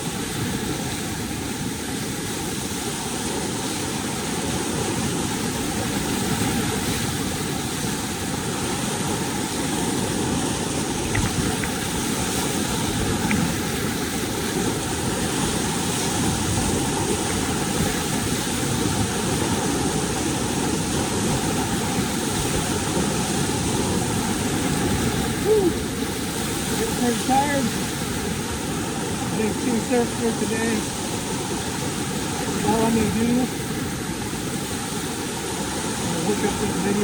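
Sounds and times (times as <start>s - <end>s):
river current rushing: 0.0s - 37.0s.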